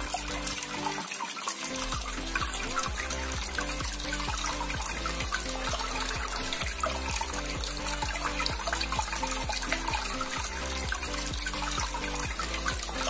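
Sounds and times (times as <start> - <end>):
background music with beat: 0.0 - 13.0
fountain water trickling: 0.0 - 13.0.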